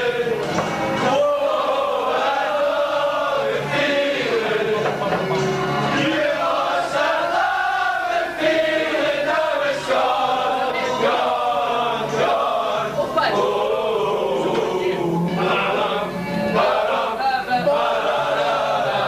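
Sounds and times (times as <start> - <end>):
men singing in unison: 0.0 - 5.3, 5.9 - 19.0.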